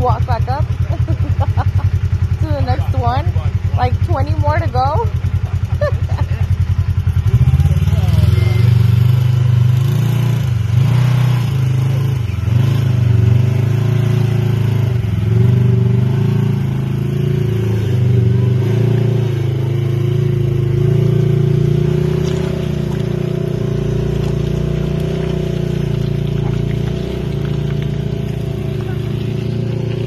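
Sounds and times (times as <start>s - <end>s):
car engine running: 0.0s - 30.0s
off-road vehicle engine revving: 0.0s - 30.0s.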